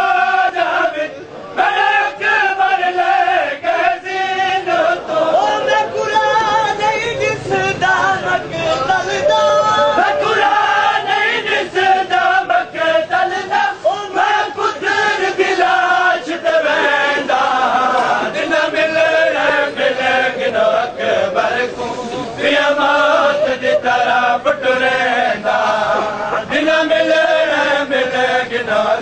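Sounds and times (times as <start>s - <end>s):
crowd of men chanting: 0.0s - 29.0s.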